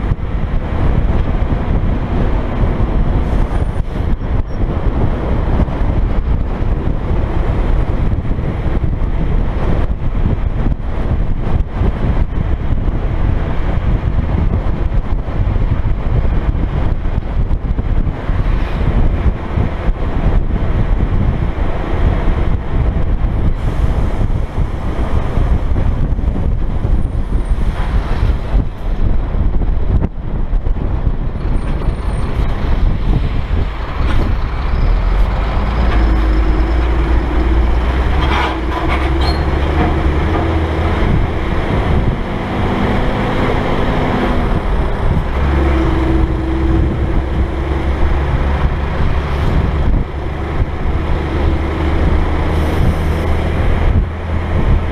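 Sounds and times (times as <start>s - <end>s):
diesel truck engine droning: 0.0s - 54.9s
wind buffeting microphone: 0.0s - 54.9s.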